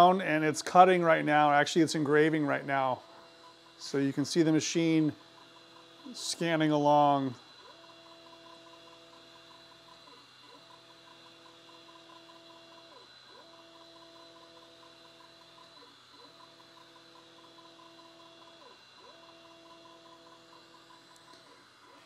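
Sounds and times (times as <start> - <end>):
laser engraver motors whining: 0.0 - 22.0.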